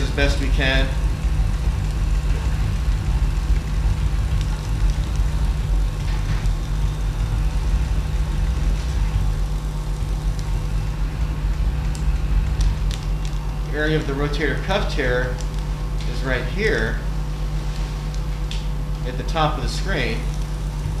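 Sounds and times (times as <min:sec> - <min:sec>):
running equipment hum: 0:00.0 - 0:21.0.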